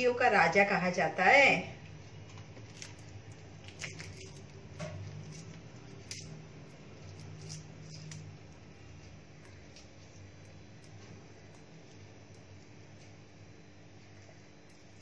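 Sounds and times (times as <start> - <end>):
charred skin peeling crackles: 1.8 - 15.0.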